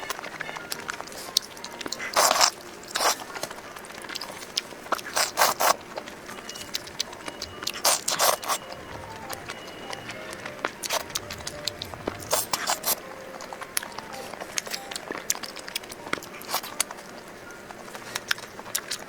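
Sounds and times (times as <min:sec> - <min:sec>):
crunchy food chewing: 0:00.0 - 0:19.0.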